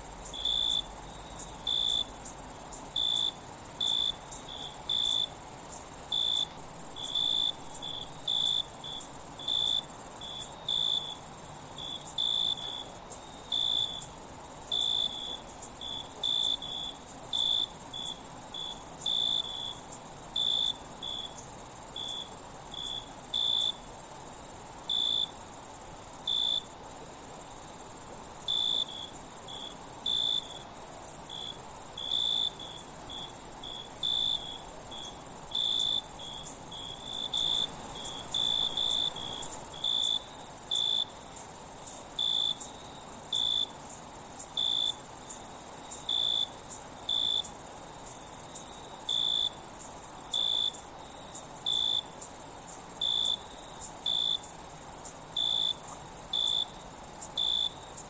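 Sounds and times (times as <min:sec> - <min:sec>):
cricket chirping: 0:00.0 - 0:58.0
high-pitched insect trill: 0:00.0 - 0:58.0.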